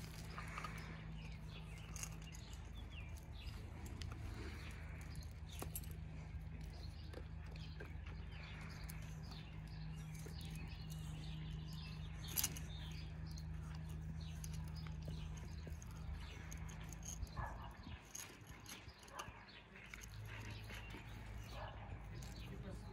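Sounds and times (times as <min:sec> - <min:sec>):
dog teeth scraping bone: 0:00.0 - 0:22.6
birds chirping: 0:00.0 - 0:22.9
steady low hum: 0:00.0 - 0:22.9.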